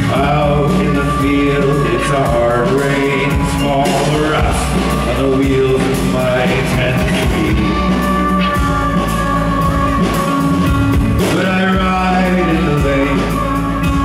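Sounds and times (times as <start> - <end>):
drums: 0.0 - 14.0
live band playing: 0.0 - 14.0.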